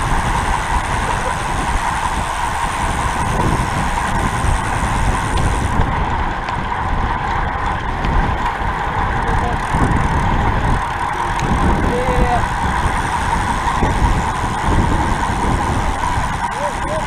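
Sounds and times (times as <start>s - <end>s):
tyre noise on asphalt: 0.0s - 17.0s
wind buffeting microphone: 0.0s - 17.0s.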